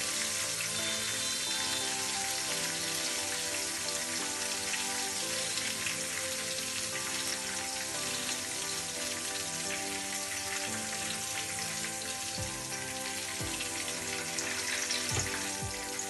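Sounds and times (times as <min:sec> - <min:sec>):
background music: 0:00.0 - 0:16.0
shrimp sizzling in hot oil: 0:00.0 - 0:16.0.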